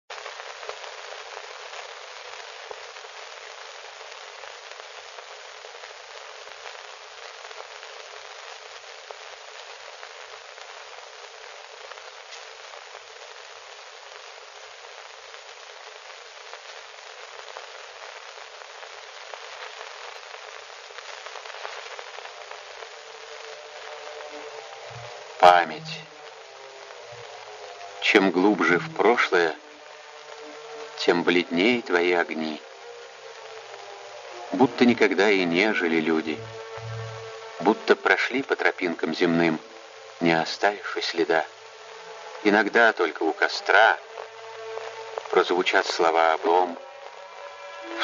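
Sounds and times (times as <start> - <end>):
faint clicks and crackles: 0.1 - 48.0
steady hiss: 0.1 - 48.0.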